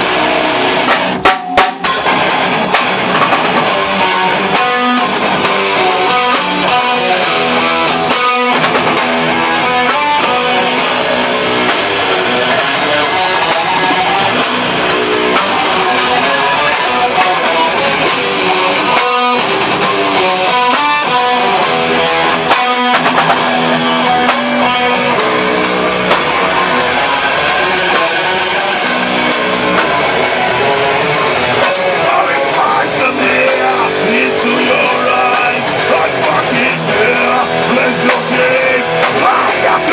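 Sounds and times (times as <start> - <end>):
bass guitar: 0.0 - 39.9
distorted electric guitars: 0.0 - 39.9
drum kit playing: 0.0 - 39.9.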